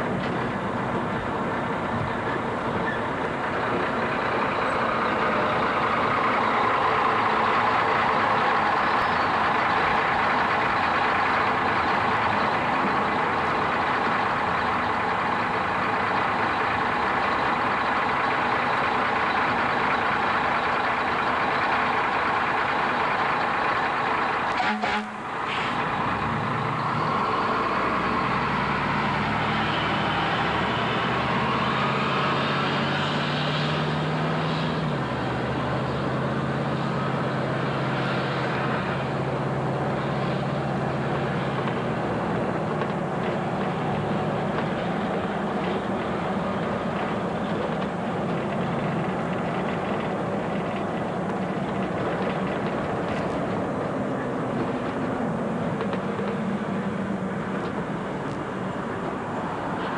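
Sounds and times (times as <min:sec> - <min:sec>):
fire engine engine running: 0:00.0 - 0:59.9
road noise: 0:00.0 - 0:59.9.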